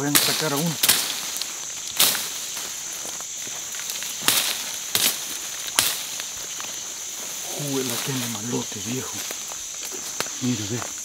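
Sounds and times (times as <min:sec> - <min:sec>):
machete chopping brush: 0:00.0 - 0:10.5.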